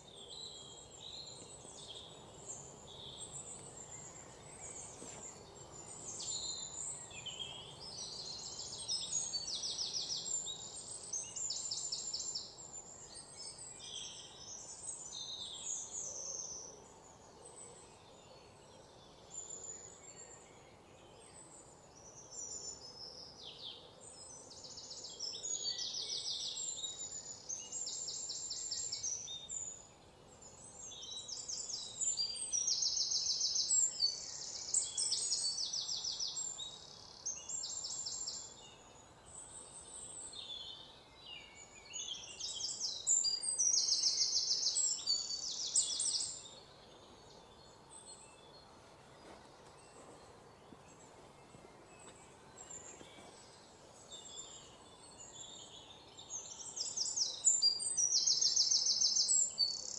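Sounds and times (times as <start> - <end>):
faint background noise: 0.0 - 59.9
small birds chirping: 0.0 - 59.9.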